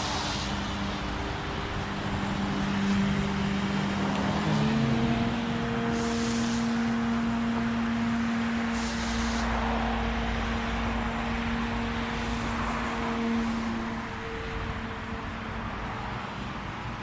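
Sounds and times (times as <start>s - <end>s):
rc helicopter rotor drone: 0.0s - 17.0s.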